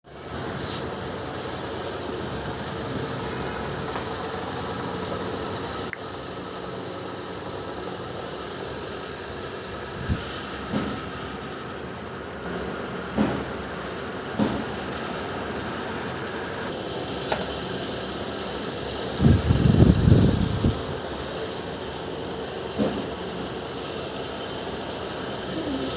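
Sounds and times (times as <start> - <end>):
machine running: 0.1 - 25.9.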